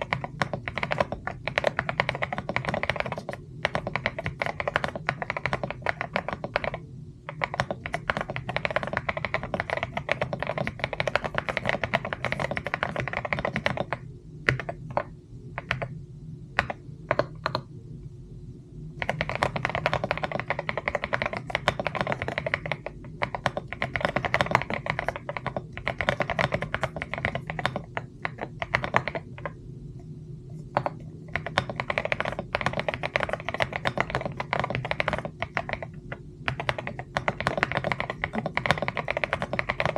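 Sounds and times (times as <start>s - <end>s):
typing on a mechanical keyboard: 0.0s - 16.0s, 16.6s - 17.7s, 19.0s - 29.6s, 30.6s - 39.9s
steady low hum: 0.0s - 39.9s.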